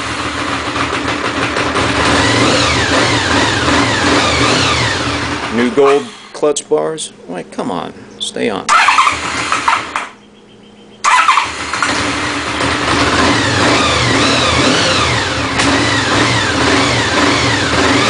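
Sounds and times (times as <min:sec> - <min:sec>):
motorcycle engine revving unevenly: 0:00.0 - 0:06.4, 0:08.7 - 0:10.2, 0:11.0 - 0:18.0.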